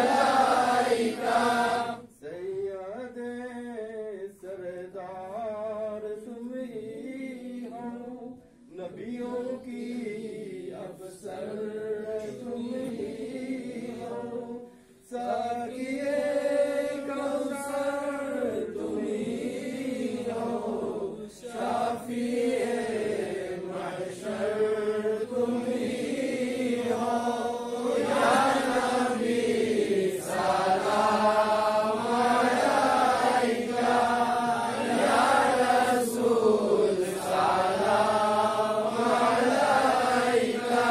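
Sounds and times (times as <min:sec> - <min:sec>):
group chanting in unison: 0:00.0 - 0:02.2, 0:08.9 - 0:40.9.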